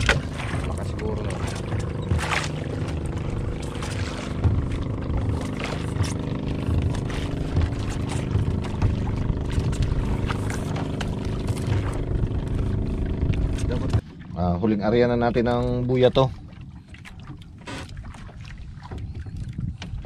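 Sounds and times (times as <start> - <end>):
boat engine running steadily: 0.0 - 20.0
knocks and splashes: 0.0 - 20.0.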